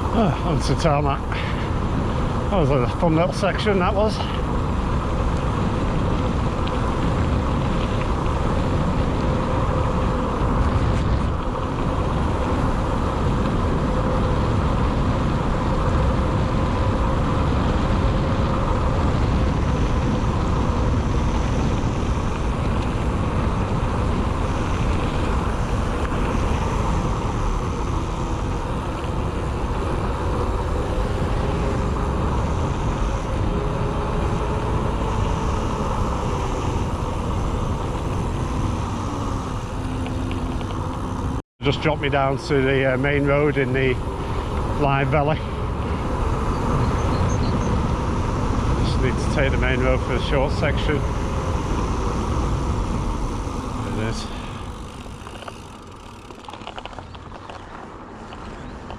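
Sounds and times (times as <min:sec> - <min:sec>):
bike tyres humming on tarmac: 0:00.0 - 0:58.9
wind on microphone: 0:00.0 - 0:58.9.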